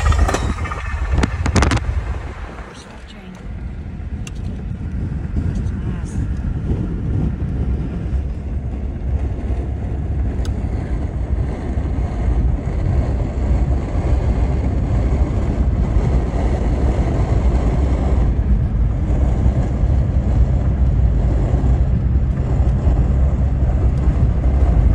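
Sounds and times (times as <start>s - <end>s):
car interior road and wind noise: 0.0s - 24.9s.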